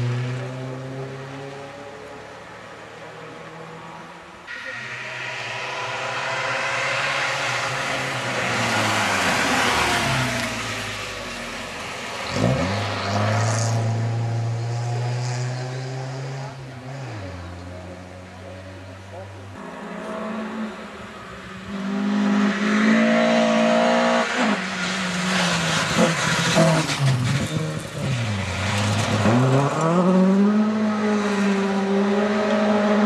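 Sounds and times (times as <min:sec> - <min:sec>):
rally car engine passing: 0:00.0 - 0:33.0.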